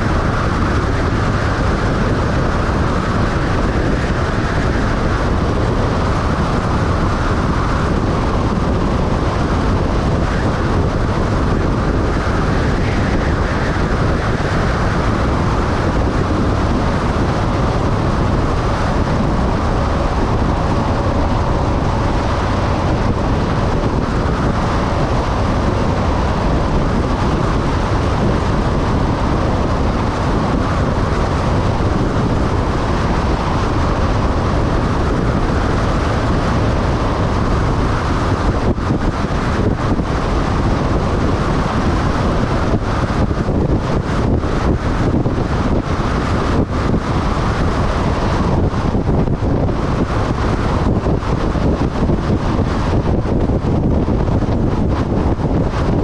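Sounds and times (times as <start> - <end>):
faint steady whine: 0.0 - 56.0
road and wind noise: 0.0 - 56.0.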